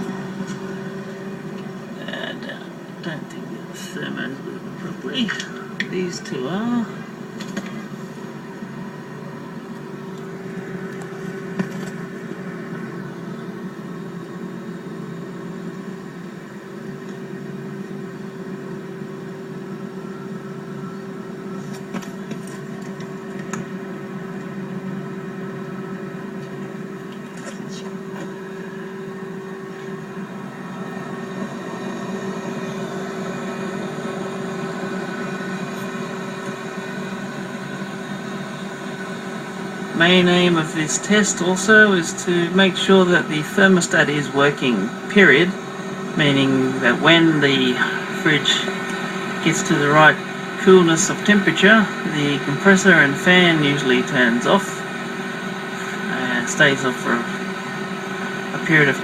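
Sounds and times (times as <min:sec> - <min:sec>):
refrigerator hum: 0:00.0 - 0:59.0.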